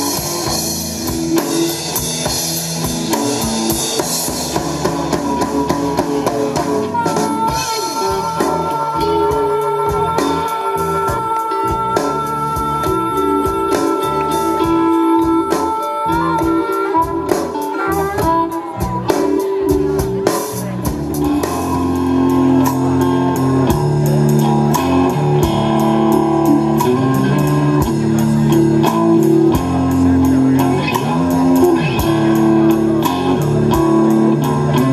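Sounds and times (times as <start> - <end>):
bass: 0.0 - 34.9
drums: 0.0 - 34.9
guitar: 0.0 - 34.9.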